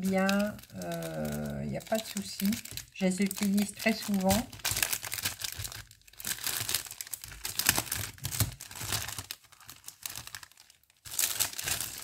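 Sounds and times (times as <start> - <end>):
sticker sheets crinkling: 0.0 - 12.0.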